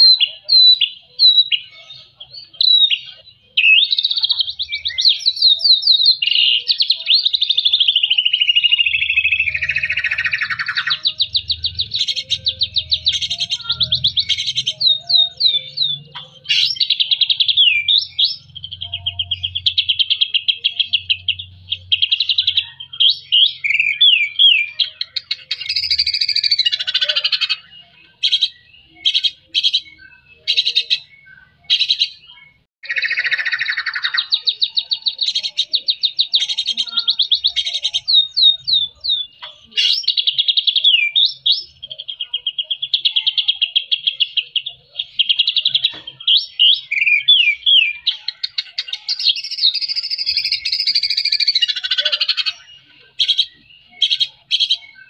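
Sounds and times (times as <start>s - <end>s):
songbird singing trills and whistles: 0.0s - 55.0s.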